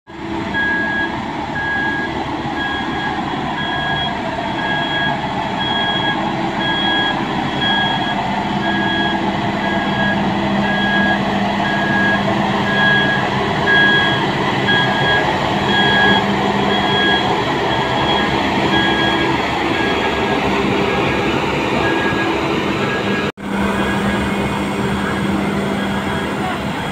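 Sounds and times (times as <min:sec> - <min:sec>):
diesel compactor engine drone: 0:00.1 - 0:26.9
warning alarm beeping: 0:00.5 - 0:26.9.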